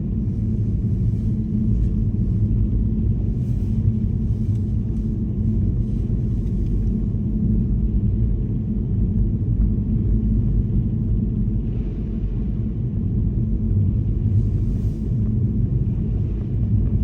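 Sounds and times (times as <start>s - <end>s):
car tyres and engine rumble: 0.0s - 17.0s.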